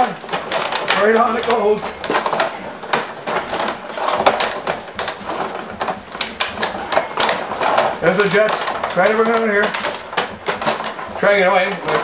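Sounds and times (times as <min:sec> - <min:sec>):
table hockey clattering: 0:00.0 - 0:12.0.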